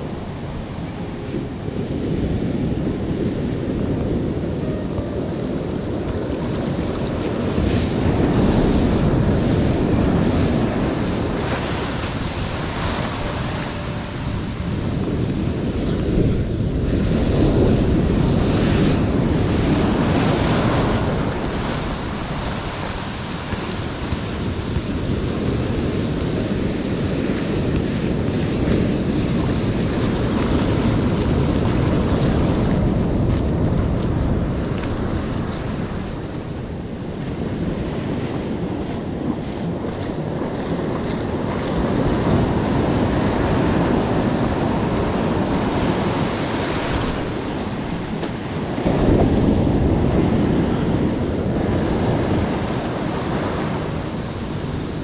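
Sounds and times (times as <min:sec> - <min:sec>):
surf washing over rocks: 0:00.0 - 0:55.0
wind buffeting microphone: 0:00.0 - 0:55.0.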